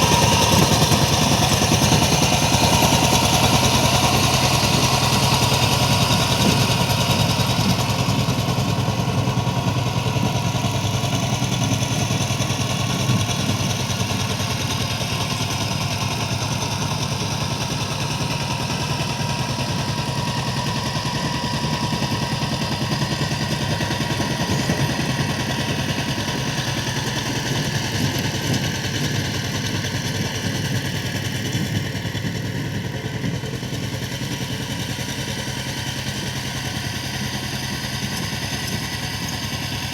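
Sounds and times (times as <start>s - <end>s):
power tiller engine chugging: 0.0s - 39.9s.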